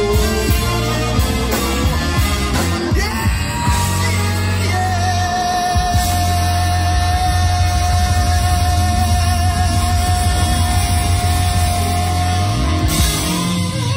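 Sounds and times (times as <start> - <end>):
live rock-soul band playing: 0.0 - 13.9.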